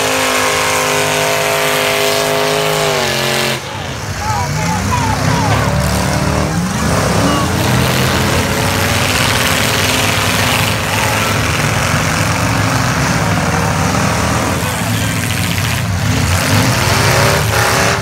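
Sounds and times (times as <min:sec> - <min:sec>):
car engines droning and revving: 0:00.0 - 0:18.0.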